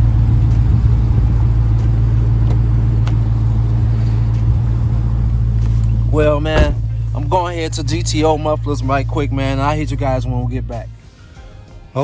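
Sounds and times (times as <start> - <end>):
car engine and road hum: 0.0 - 11.2.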